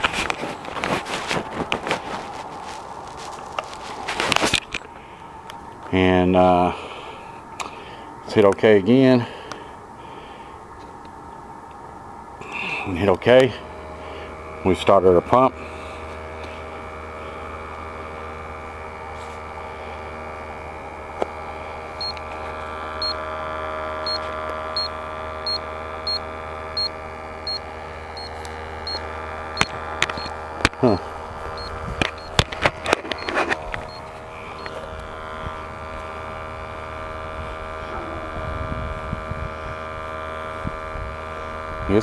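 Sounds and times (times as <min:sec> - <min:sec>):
pump humming: 0:00.0 - 0:42.0.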